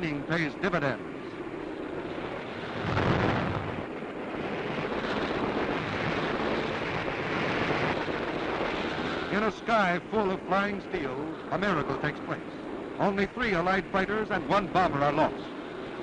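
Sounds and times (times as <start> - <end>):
loud rumbling: 0.0 - 15.0
continuous noisy roar: 0.0 - 16.0.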